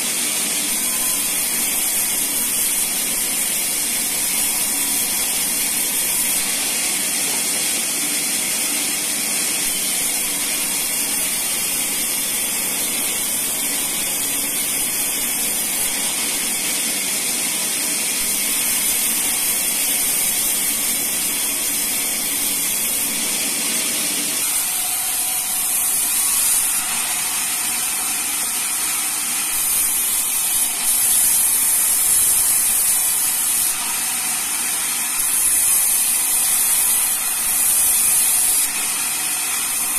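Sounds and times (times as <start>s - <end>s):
band saw blade hissing through wood: 0.0s - 39.9s.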